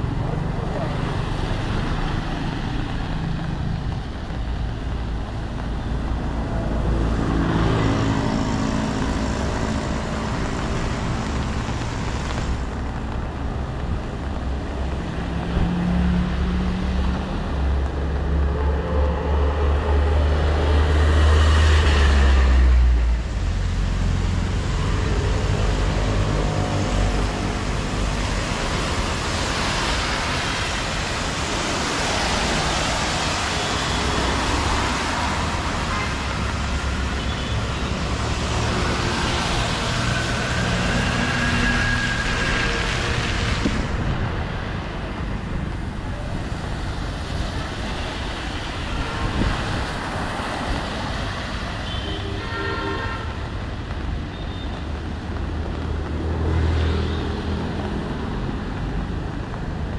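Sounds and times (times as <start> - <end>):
tyres hissing on wet road: 0.0 - 59.9.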